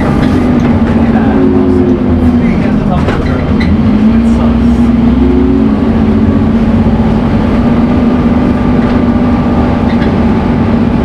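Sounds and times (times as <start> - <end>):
bus diesel engine whining: 0.0 - 11.0.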